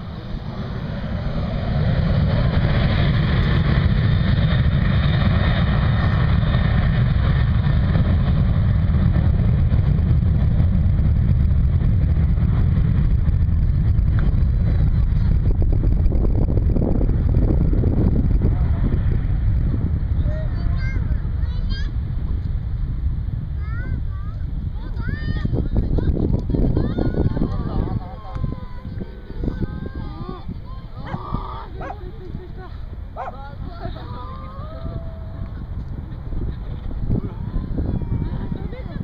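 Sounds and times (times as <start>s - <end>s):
jet engines rumbling at takeoff: 0.0s - 39.0s.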